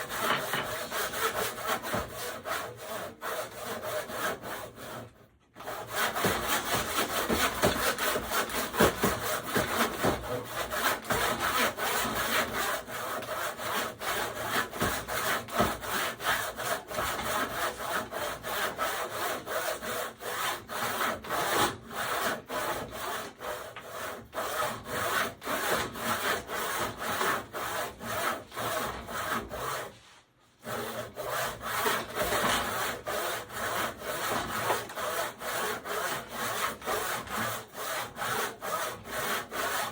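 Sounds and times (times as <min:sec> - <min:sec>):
handsaw cutting wood: 0:00.0 - 0:39.9.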